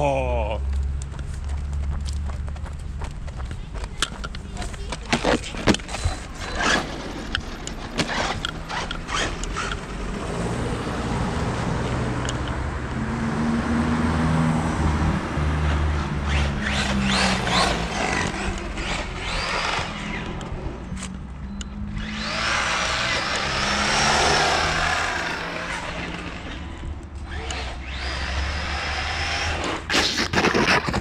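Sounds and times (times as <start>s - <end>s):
vehicle running on road: 0.0s - 31.0s.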